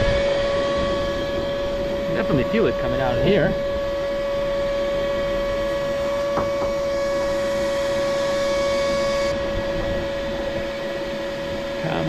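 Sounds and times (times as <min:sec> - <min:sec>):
shop vacuum motor whining: 0:00.0 - 0:12.0.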